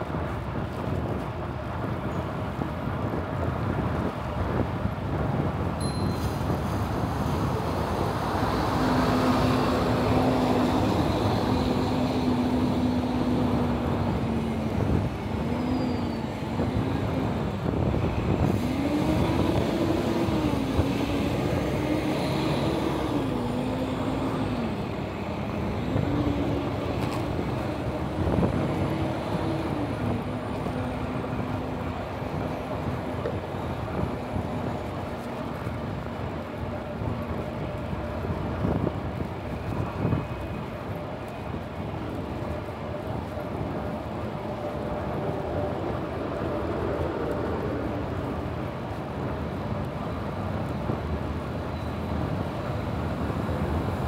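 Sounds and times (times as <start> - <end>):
road traffic noise: 0.0 - 54.0
vehicle engine hum varying in pitch: 5.8 - 54.0.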